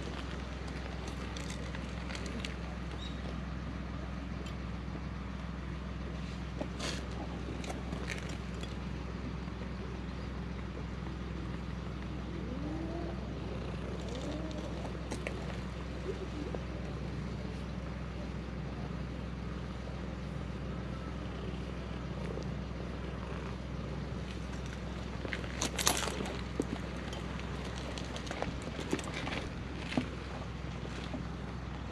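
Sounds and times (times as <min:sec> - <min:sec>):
low outdoor rumble: 0:00.0 - 0:31.9.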